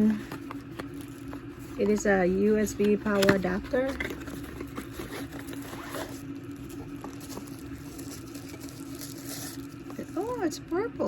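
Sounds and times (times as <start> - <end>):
plastic packaging rustling and tearing: 0.0 - 11.0
steady low hum: 0.0 - 11.0.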